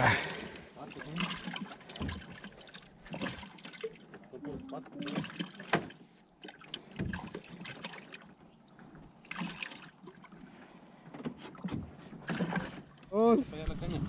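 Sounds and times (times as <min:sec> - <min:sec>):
water lapping against hull: 0:00.0 - 0:14.0
knocks and rustles in boat: 0:01.0 - 0:14.0.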